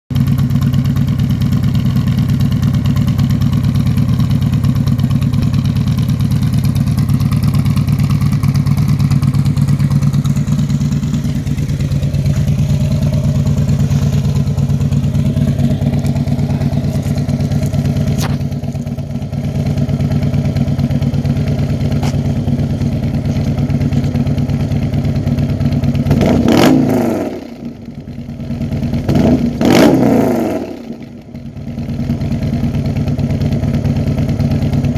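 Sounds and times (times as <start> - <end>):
motorcycle engine idling: 0.1 - 34.9
motorcycle throttle blips: 0.2 - 33.2.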